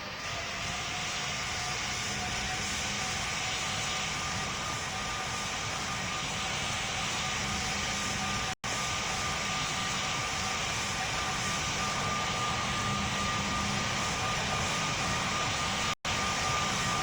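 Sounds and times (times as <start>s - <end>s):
aircraft engine running: 0.0s - 17.0s
high whine: 0.1s - 17.0s.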